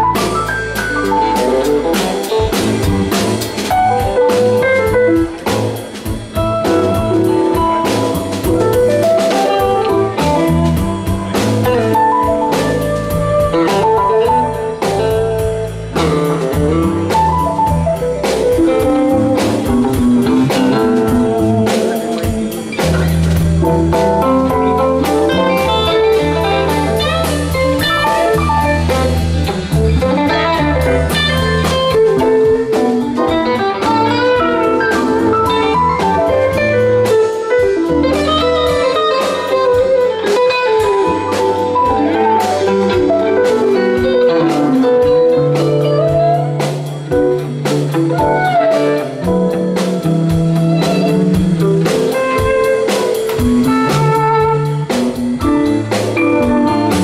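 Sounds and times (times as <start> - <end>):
drum kit: 0.0 - 57.0
electric bass: 0.0 - 57.0
lead guitar: 0.0 - 57.0.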